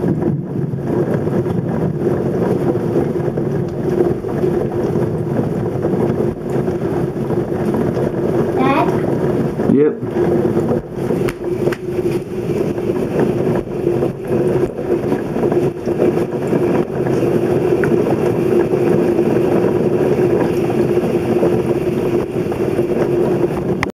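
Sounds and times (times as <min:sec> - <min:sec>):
constant rushing noise: 0:00.0 - 0:23.9
steady mechanical hum: 0:00.0 - 0:23.9.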